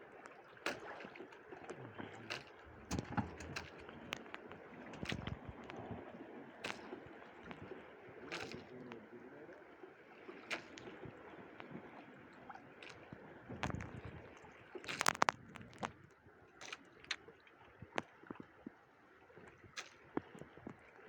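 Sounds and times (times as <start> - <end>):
water sloshing and lapping: 0.0 - 21.0.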